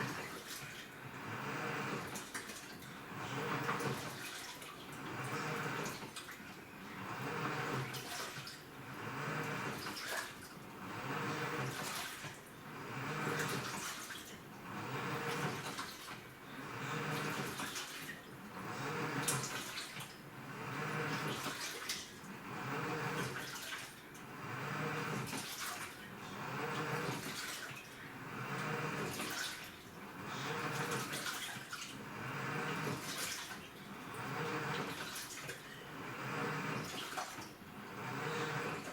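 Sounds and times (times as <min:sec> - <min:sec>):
low motor hum: 0:00.0 - 0:04.2, 0:04.9 - 0:10.0, 0:10.6 - 0:13.8, 0:14.4 - 0:17.6, 0:18.4 - 0:19.7, 0:20.3 - 0:21.5, 0:22.2 - 0:23.4, 0:24.1 - 0:25.4, 0:26.0 - 0:27.4, 0:28.0 - 0:38.9
washing machine agitating laundry: 0:00.0 - 0:38.9.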